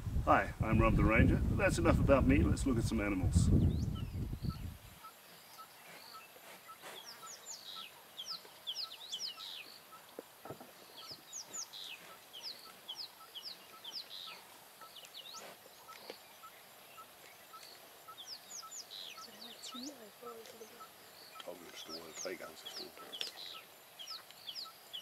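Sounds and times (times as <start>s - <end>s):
birds chirping: 3.1s - 25.0s.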